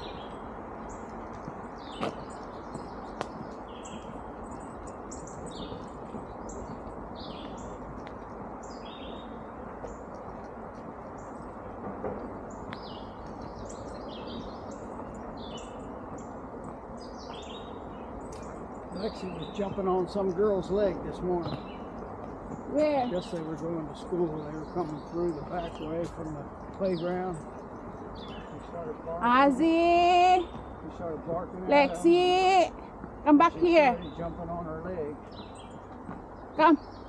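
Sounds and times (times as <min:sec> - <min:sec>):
low rushing background noise: 0:00.0 - 0:37.0
wild birds chirping: 0:00.0 - 0:37.0.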